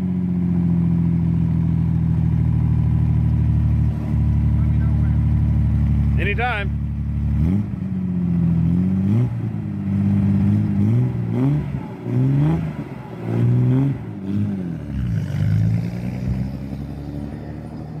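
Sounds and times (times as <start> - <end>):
car engine revving: 0.6 - 18.0.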